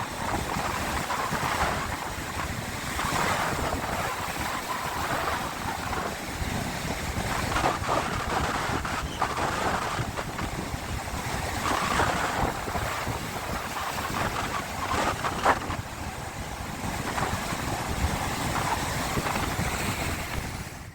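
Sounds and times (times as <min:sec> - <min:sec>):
sea waves washing and splashing: 0:00.0 - 0:20.9
wind buffeting the microphone: 0:00.0 - 0:20.9.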